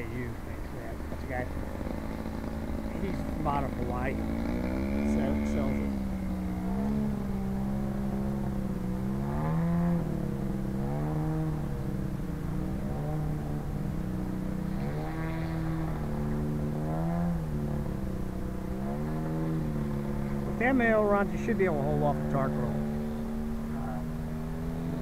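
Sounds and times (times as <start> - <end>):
model airplane engine drone: 0.0 - 25.0.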